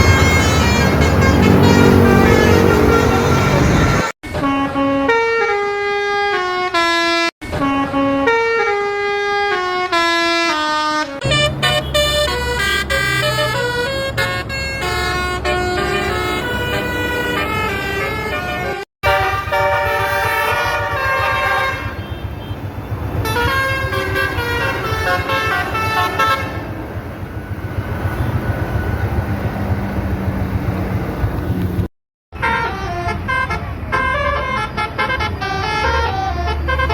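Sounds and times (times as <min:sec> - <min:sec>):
bus engine rumbling: 0:00.0 - 0:04.2, 0:07.5 - 0:36.9
musical bus horn: 0:00.0 - 0:27.0, 0:32.3 - 0:36.9.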